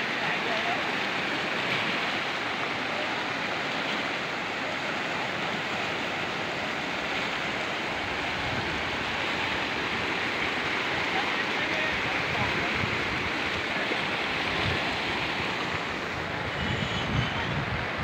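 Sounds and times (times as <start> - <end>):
river in flood rushing: 0.0 - 18.0.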